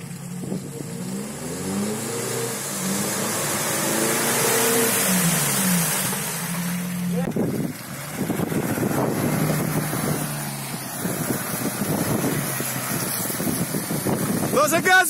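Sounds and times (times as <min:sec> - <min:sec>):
suv engine revving hard: 0:00.0 - 0:15.0.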